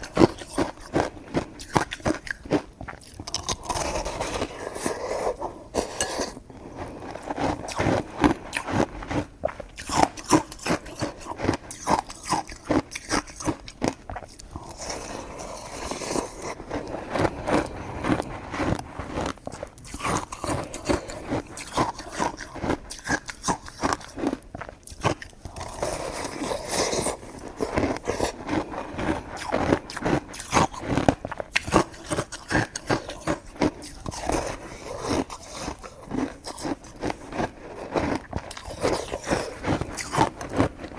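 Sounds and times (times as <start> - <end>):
chewing and biting food: 0.0 - 40.9.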